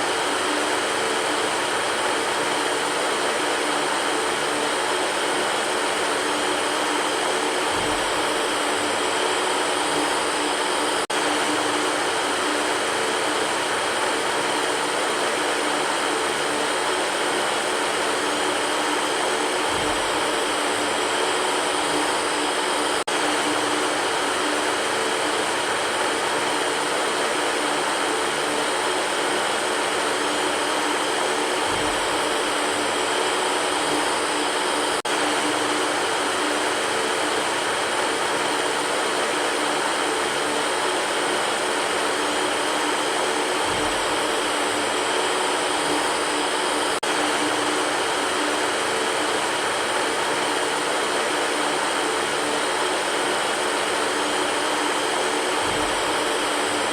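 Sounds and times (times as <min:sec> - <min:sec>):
electric fan running: 0:00.0 - 0:56.9.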